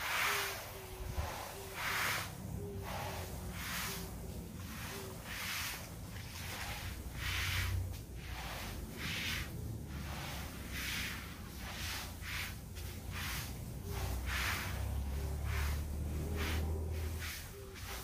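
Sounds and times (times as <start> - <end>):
hose spray hissing onto soil: 0.0 - 18.0.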